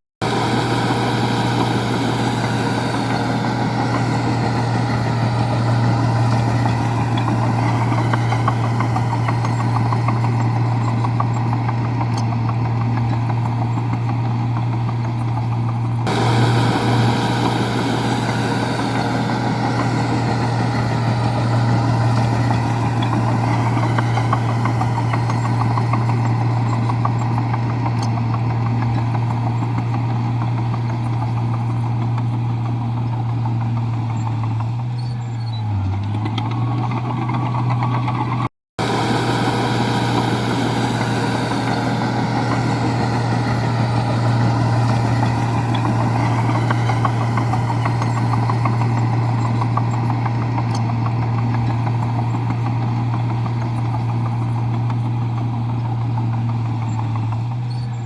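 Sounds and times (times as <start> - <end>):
bulldozer diesel engine running: 0.2 - 58.0.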